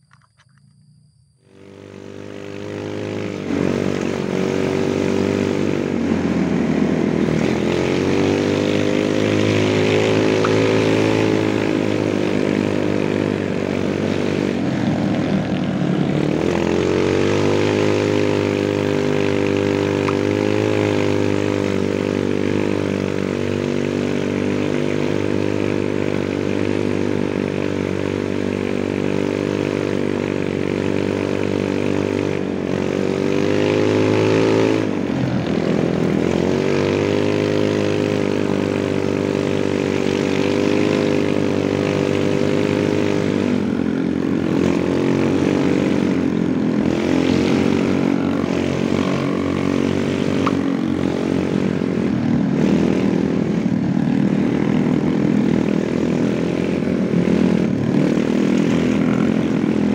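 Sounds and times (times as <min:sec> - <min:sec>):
scooter engine drone: 0:00.0 - 0:59.9.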